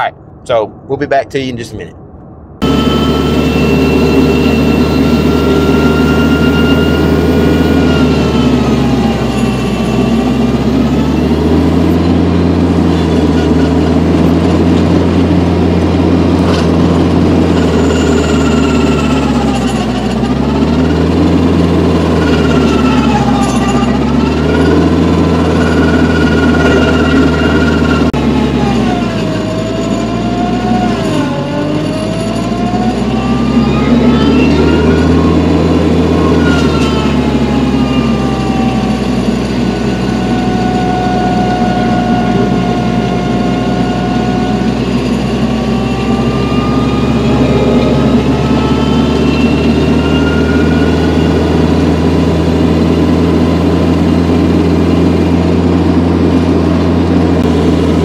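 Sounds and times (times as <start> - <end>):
whine rising and falling: 2.1 - 58.0
vehicle engine running: 2.4 - 58.0.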